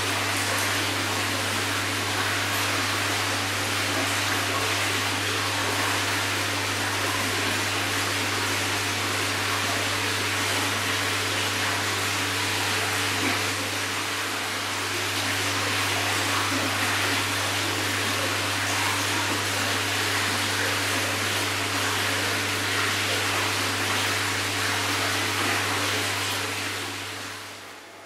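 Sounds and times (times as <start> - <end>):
hiss of pumps and aeration: 0.0 - 28.0.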